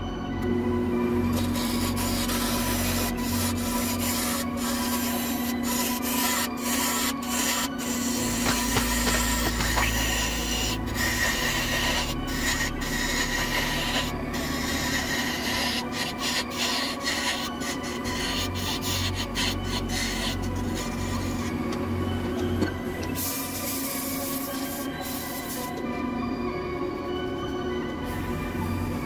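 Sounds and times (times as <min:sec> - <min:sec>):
wood lathe motor hum: 0:00.0 - 0:29.0
chisel scraping spinning wood: 0:01.2 - 0:25.8.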